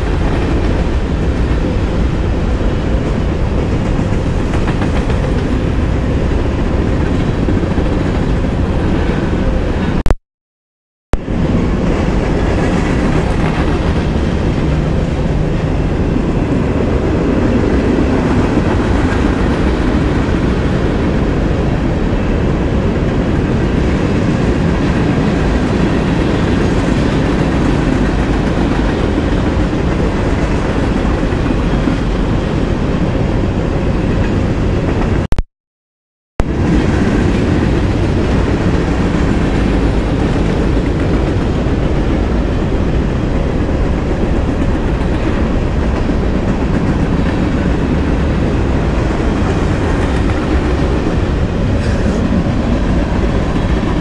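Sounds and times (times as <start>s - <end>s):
train wheels on rails: 0.0s - 10.0s, 11.2s - 35.3s, 36.4s - 54.0s.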